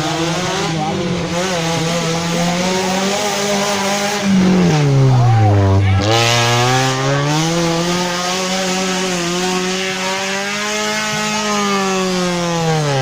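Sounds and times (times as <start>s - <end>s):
off-road vehicle engine revving high: 0.0s - 13.0s.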